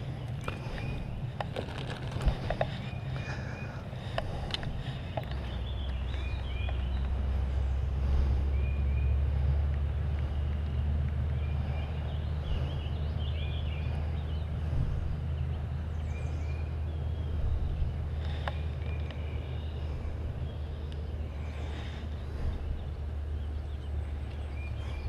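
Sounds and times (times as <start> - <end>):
bird chirping: 0.0 - 25.0
steady low rumble: 0.0 - 25.0.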